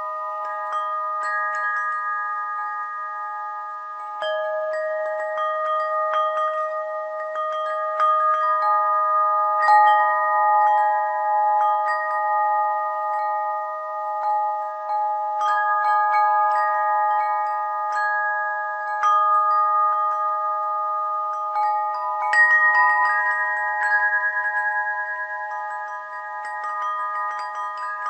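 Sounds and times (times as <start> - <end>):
chime bells ringing: 0.0 - 28.0.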